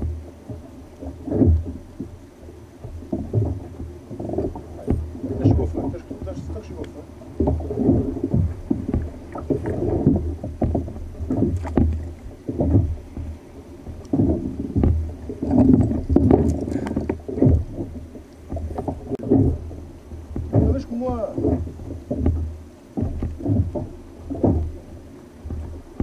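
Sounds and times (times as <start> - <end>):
water slapping against kayak hull: 0.0 - 26.0.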